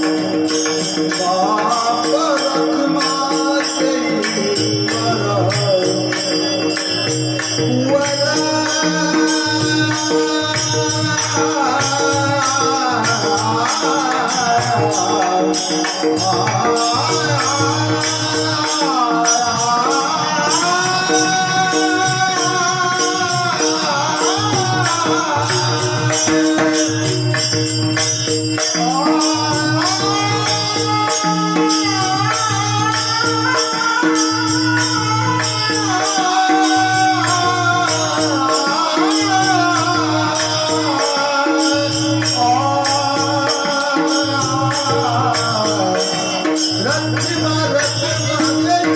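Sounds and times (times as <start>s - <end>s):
drum beating: 0.0s - 48.9s
hand cymbals: 0.0s - 48.9s.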